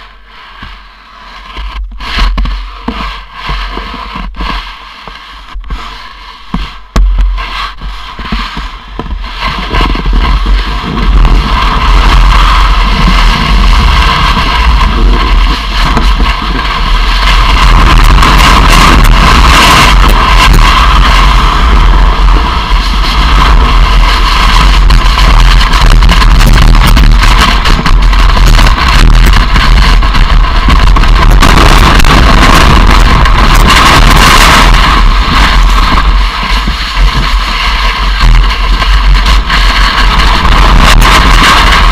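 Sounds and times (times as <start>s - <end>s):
sliding over snow: 0.0s - 41.9s
wind buffeting microphone: 6.5s - 41.9s.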